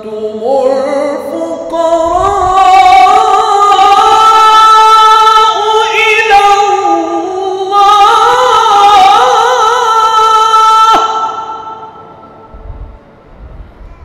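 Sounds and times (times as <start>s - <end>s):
echo of voice: 0.0s - 14.0s.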